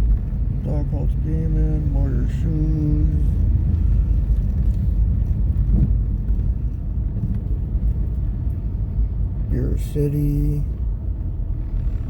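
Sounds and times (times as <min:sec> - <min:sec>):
engine and tyres rumbling: 0:00.0 - 0:12.0.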